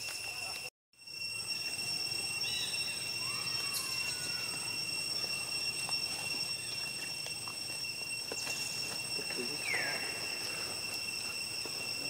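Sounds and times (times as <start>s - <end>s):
insects droning: 0.0s - 12.0s
faint gliding calls: 1.7s - 12.0s.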